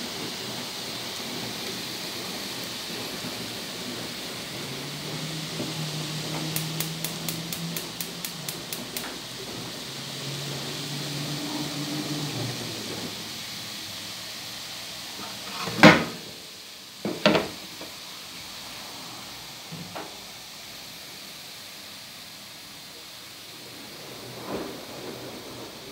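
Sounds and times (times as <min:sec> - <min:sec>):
vegetables sizzling in a pan: 0:00.0 - 0:25.9.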